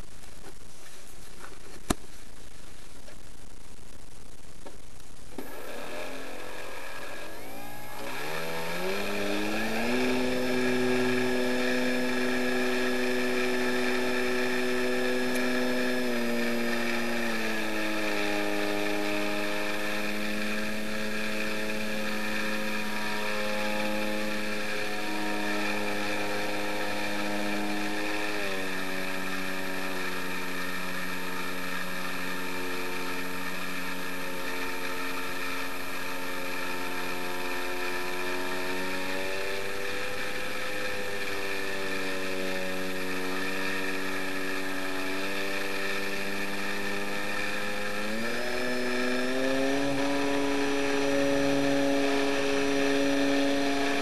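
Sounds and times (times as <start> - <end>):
model plane motors whining: 5.3 - 54.0.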